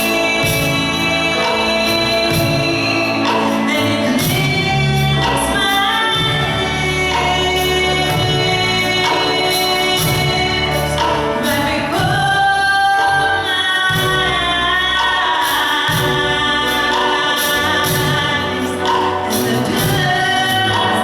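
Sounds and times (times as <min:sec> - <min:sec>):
band with steady beat: 0:00.0 - 0:21.0
voices singing together: 0:00.0 - 0:21.0.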